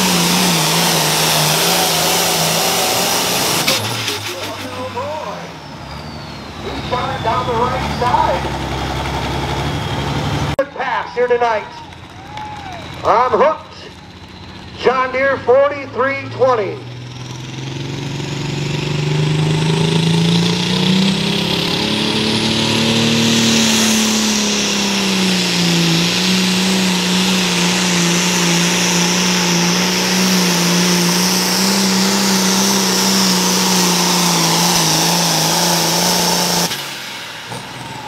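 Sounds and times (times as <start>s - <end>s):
tractor diesel engine at full throttle: 0.0s - 38.0s.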